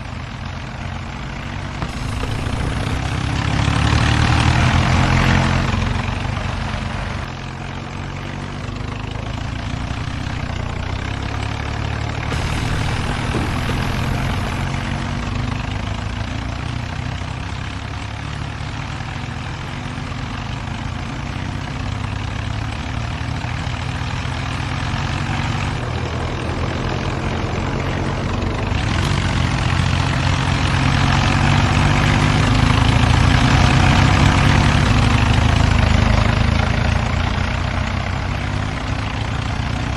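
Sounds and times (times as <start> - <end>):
diesel tractor engines straining: 0.0 - 39.9.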